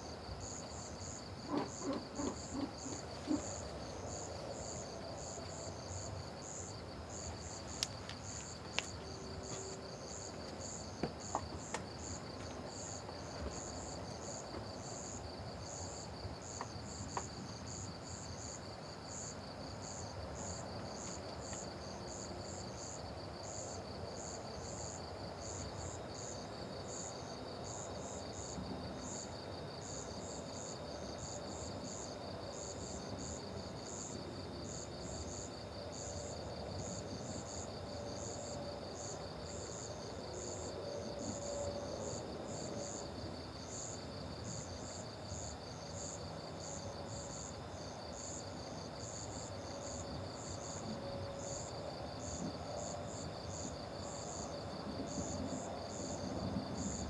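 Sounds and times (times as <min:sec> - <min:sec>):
crickets trilling: 0:00.0 - 0:57.0
low steady background noise: 0:00.0 - 0:57.0.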